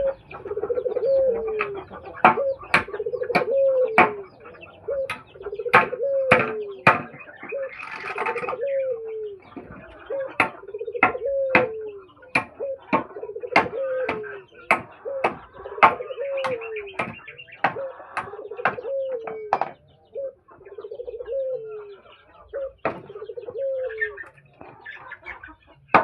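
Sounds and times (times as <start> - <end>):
high bird chatter: 0.0 - 26.0.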